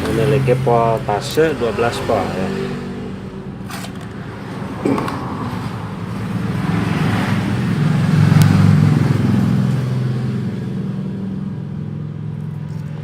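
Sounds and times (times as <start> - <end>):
motor vehicle passing by: 0.0 - 13.0.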